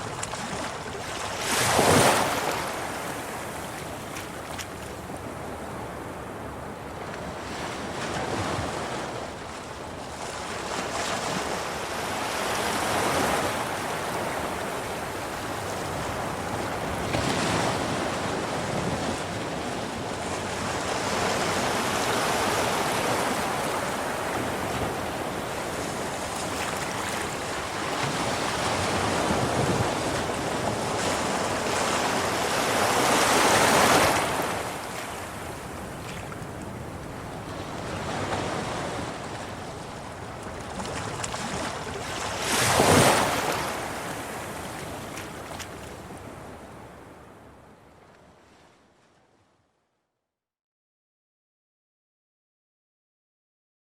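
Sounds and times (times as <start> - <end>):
sea waves breaking over rocks: 0.0 - 46.6.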